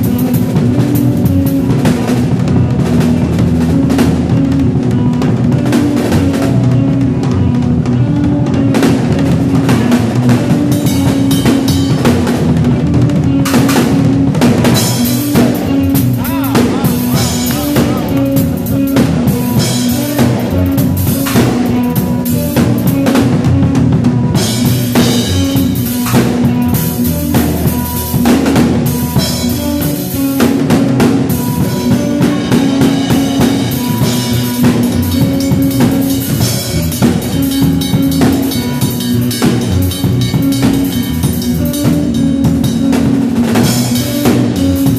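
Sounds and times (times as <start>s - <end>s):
drum kit music: 0.0s - 44.9s
low melodic line: 0.0s - 44.9s.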